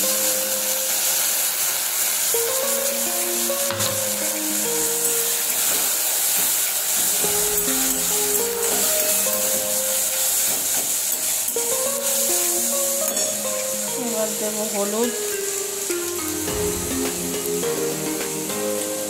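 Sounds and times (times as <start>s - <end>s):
background music of held notes: 0.0s - 19.0s
paste sizzling in oil: 0.0s - 19.0s.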